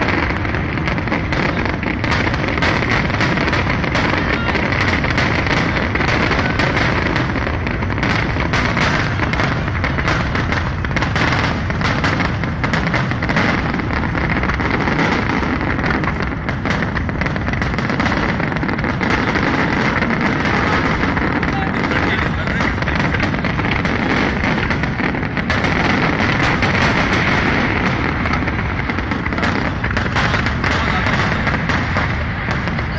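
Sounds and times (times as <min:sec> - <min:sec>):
fireworks bangs: 0:00.0 - 0:32.9.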